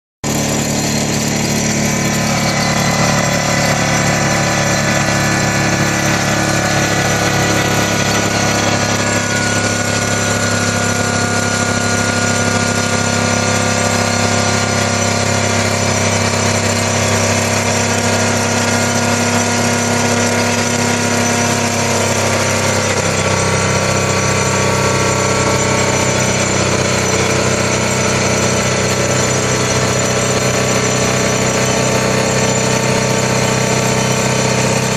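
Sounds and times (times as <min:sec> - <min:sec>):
vibratory pile hammer humming: 0:00.2 - 0:34.9.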